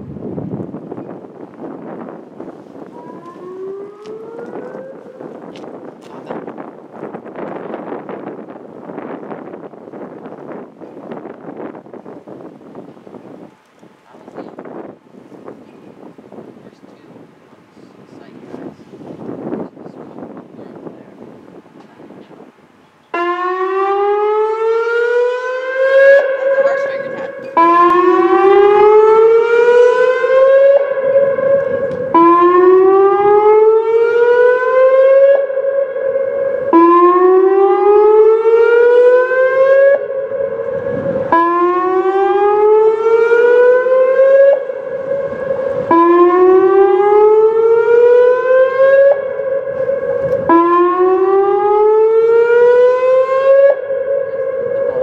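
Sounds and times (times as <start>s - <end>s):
loud electronic warning siren whooping: 0.0s - 13.4s, 23.1s - 55.0s.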